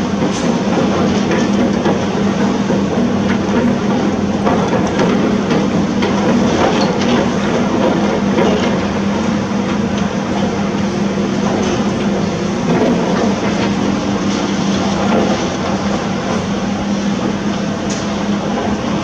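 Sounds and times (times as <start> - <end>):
faint knocks and clanks: 0.0 - 16.5.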